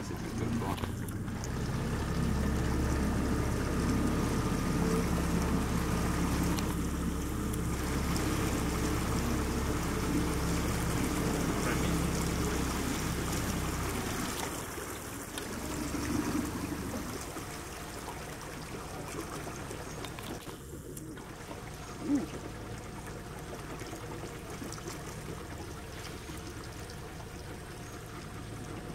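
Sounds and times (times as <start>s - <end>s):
boat motor running: 0.0s - 28.9s
water trickling and lapping: 0.0s - 28.9s.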